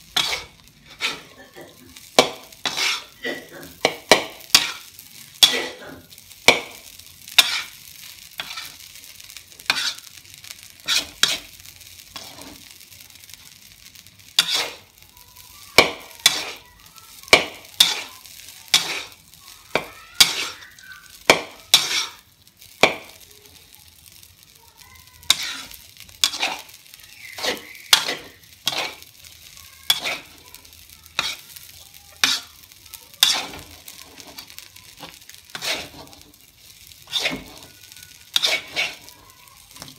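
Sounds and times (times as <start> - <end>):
metal spatula scraping a wok: 0.0 - 5.8, 6.5 - 12.8, 14.2 - 15.0, 15.8 - 16.7, 17.3 - 23.2, 25.3 - 39.9
sizzle of frying: 0.0 - 39.9.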